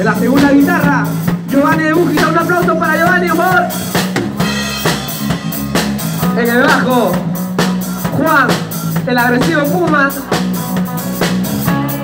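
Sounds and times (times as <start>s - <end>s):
drum kit: 0.0s - 12.0s
electric guitars and bass: 0.0s - 12.0s.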